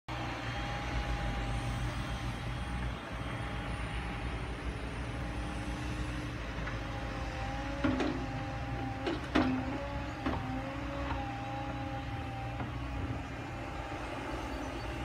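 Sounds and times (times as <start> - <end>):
excavator diesel engine rumble: 0.1 - 15.0.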